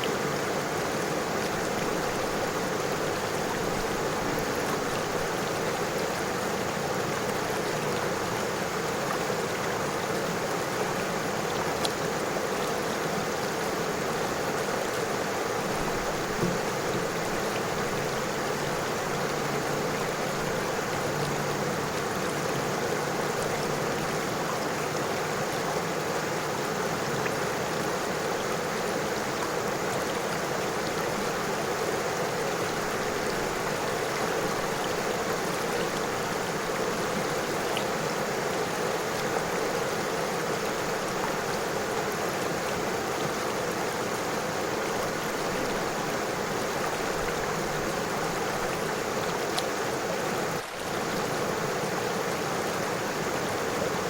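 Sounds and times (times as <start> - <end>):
river water rippling over stones: 0.0 - 54.0.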